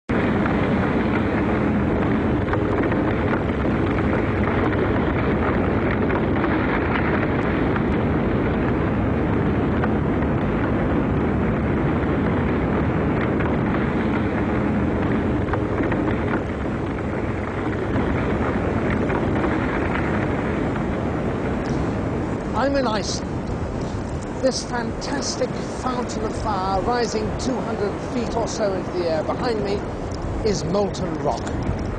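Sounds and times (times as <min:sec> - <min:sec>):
roar of erupting lava fountain: 0:00.1 - 0:31.9
wind buffeting microphone: 0:00.1 - 0:31.9.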